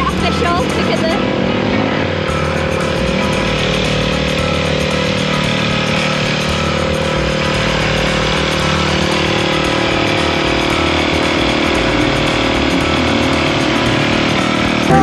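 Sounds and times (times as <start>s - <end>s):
motocross bike engine running: 0.0s - 15.0s.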